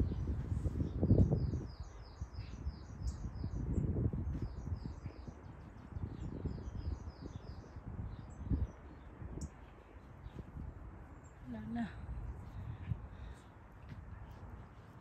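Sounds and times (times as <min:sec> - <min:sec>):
low rumbles on microphone: 0:00.0 - 0:15.0.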